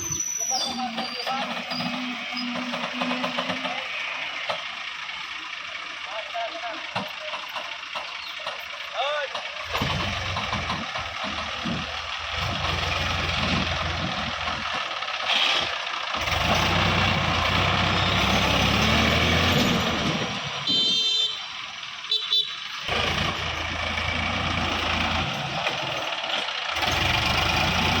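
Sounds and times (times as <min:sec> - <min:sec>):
diesel machinery revving: 0:00.0 - 0:28.0.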